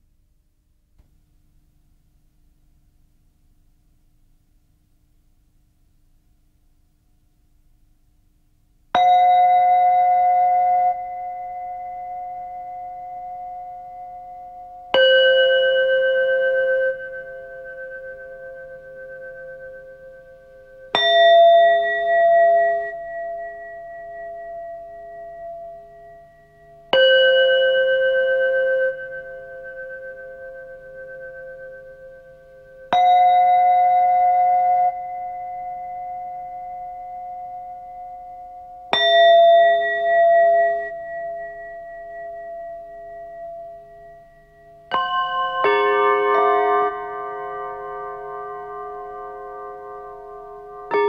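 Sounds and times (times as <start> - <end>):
bell-like metal tones ringing: 9.0 - 51.0.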